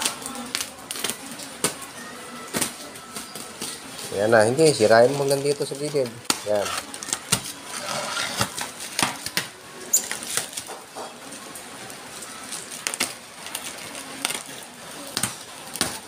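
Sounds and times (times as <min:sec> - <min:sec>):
plastic wrap crinkling and tearing: 0:00.0 - 0:16.0.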